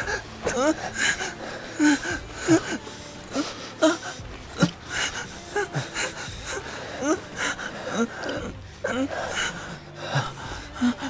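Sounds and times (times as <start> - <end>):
man moaning and gasping: 0.0 - 11.0.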